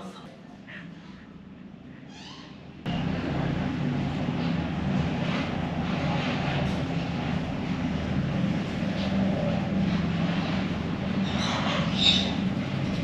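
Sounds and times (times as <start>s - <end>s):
low mechanical drone with hum: 0.0s - 13.0s.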